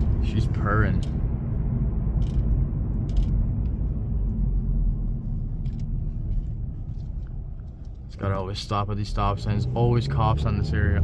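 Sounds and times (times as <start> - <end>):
car engine purring inside cabin: 0.0 - 11.0.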